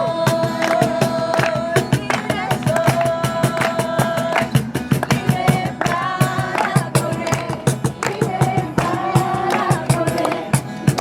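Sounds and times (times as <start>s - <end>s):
music with quick steady beat: 0.0s - 11.0s
strummed guitar: 0.0s - 11.0s.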